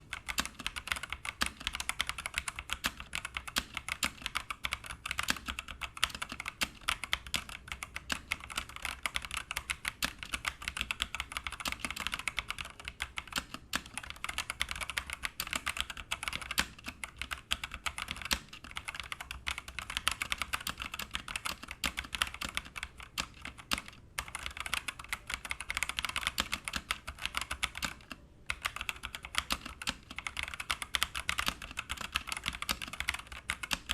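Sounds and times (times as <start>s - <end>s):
fast typing on mechanical keyboard: 0.0s - 33.9s.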